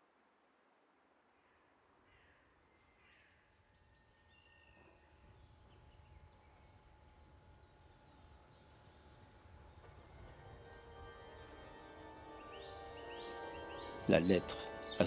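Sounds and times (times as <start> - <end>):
faint outdoor ambience: 0.0 - 15.0
bird chirps: 2.8 - 15.0.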